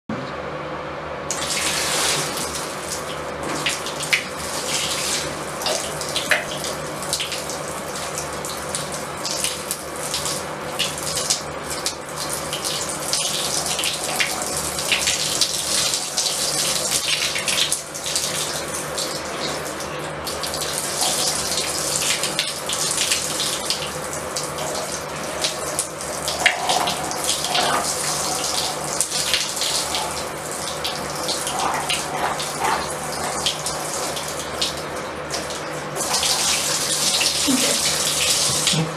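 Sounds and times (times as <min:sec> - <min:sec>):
water running into bathtub: 0:01.3 - 0:38.9.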